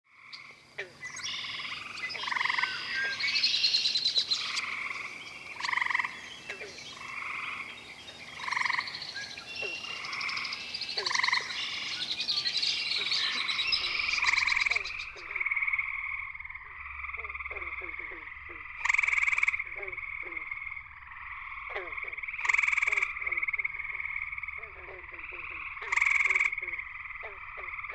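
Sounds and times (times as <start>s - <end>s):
higher-pitched frog trills: 0.1s - 27.9s
treefrogs trilling: 0.1s - 27.9s.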